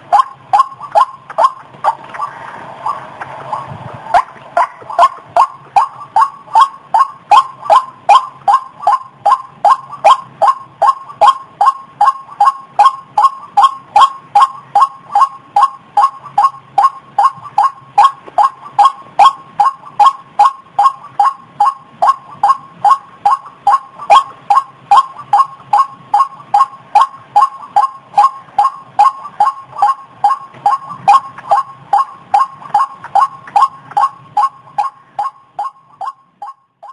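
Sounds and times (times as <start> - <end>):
waterhen calling: 0.0 - 36.9.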